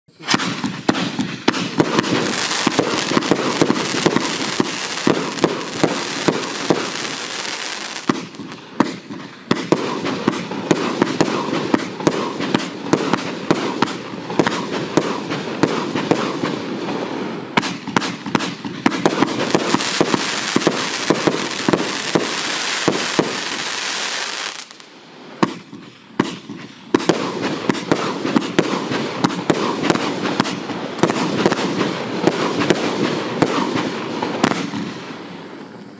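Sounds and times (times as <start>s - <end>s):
firework battery bangs and crackling: 0.1s - 35.9s.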